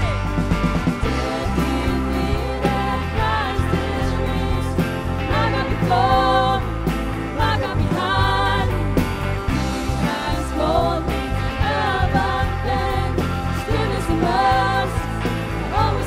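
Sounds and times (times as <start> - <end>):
acoustic guitar: 0.0 - 16.0
electric guitar: 0.0 - 16.0
keyboard: 0.0 - 16.0
women singing: 1.0 - 16.0.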